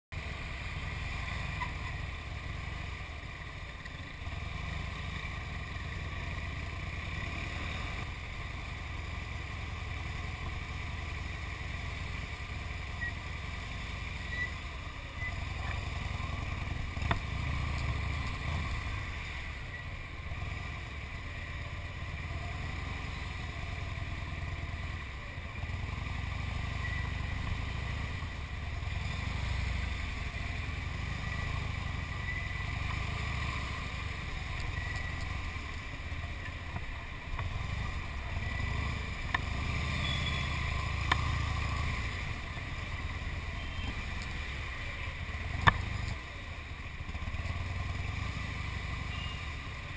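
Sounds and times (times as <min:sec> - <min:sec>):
motorcycle engine rumbling: 0:00.1 - 0:49.9.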